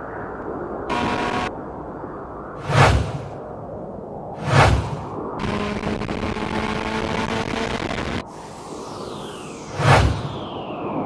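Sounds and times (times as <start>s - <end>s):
low rumble: 0.0s - 11.0s
wind and road noise: 0.0s - 11.0s.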